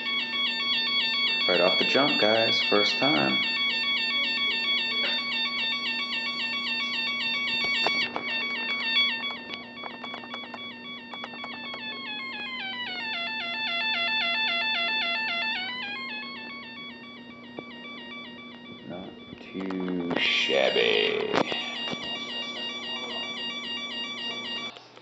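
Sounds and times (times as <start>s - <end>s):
buzzy electronic chirping tone: 0.0s - 24.7s.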